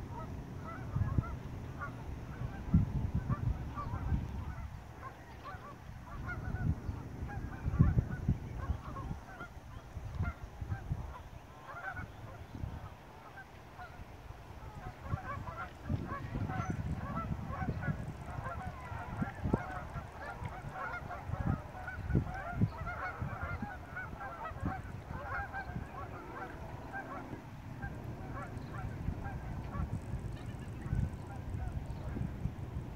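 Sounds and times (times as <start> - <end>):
geese honking: 0.1 - 32.3.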